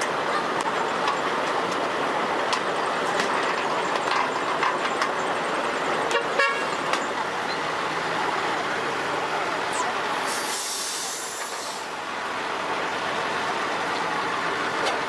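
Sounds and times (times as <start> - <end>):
vehicle running noise: 0.0 - 15.0.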